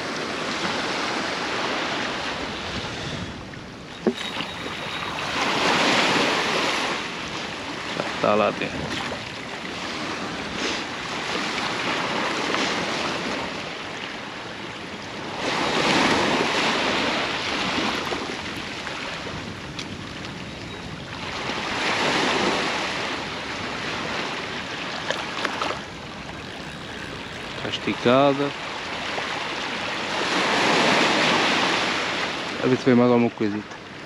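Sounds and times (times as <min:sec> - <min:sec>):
waves washing on beach: 0:00.0 - 0:34.0.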